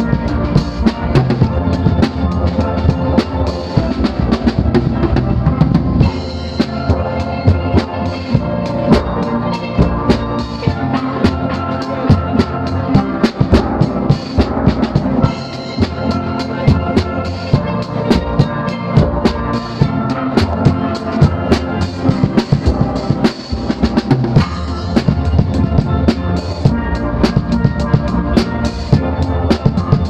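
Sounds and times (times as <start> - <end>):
drums beating: 0.0 - 30.0
steel pans ringing: 0.0 - 30.0.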